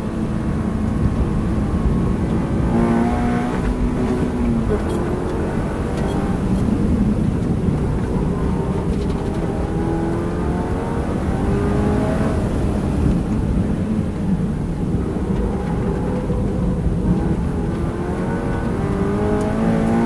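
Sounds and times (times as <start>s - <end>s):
car engine accelerating: 0.0s - 20.0s
tyre and wind noise: 0.0s - 20.0s.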